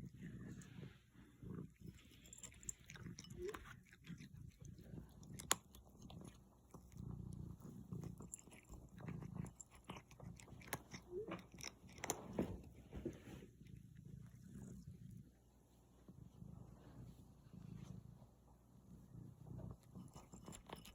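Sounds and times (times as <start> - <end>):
cat chewing food: 0.0 - 15.5, 19.0 - 20.9.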